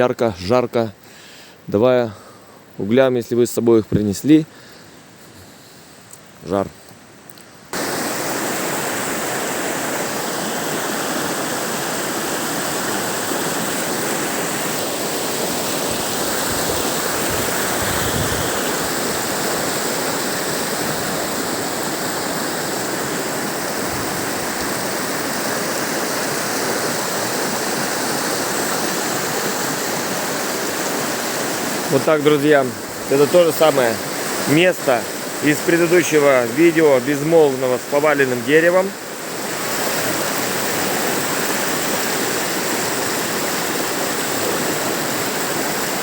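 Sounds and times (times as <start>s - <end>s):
river rushing over rocks: 7.8s - 46.0s.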